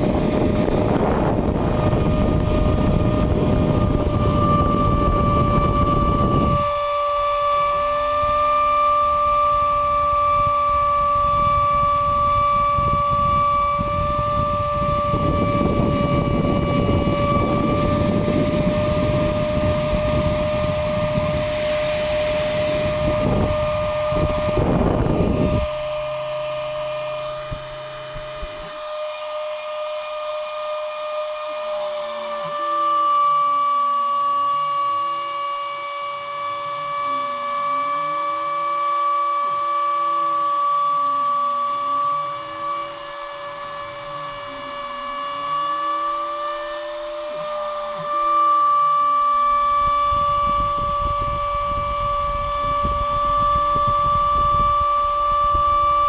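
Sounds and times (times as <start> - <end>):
stepper motors whining: 0.0 - 56.0.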